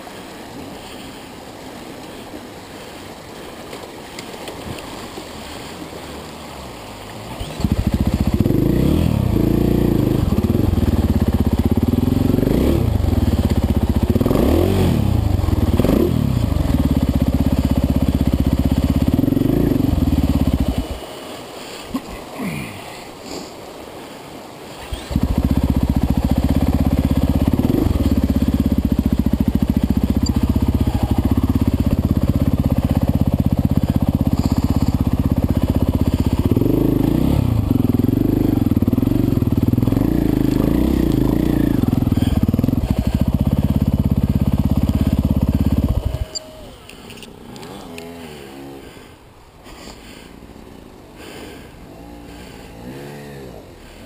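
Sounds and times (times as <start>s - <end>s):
dirt bike engine with throttle blips: 6.0s - 21.2s, 24.7s - 54.0s.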